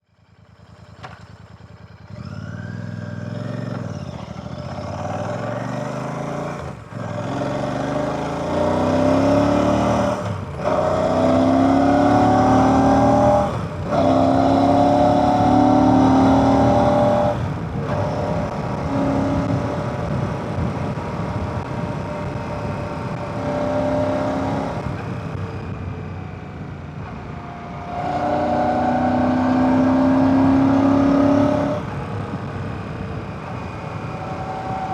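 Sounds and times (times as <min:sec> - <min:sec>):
motorcycle accelerating: 0:00.1 - 0:34.9.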